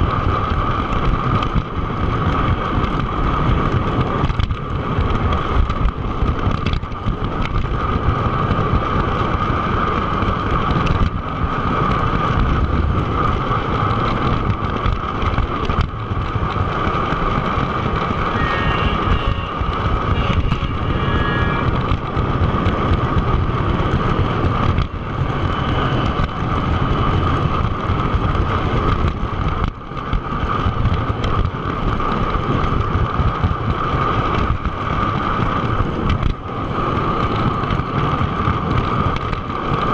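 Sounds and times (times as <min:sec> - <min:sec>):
model train rolling on track: 0:00.0 - 0:39.9.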